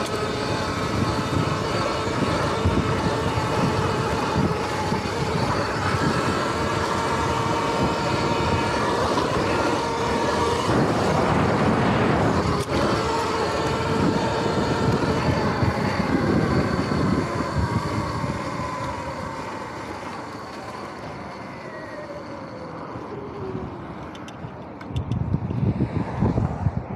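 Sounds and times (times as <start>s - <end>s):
electric motor whining: 0.0s - 24.4s.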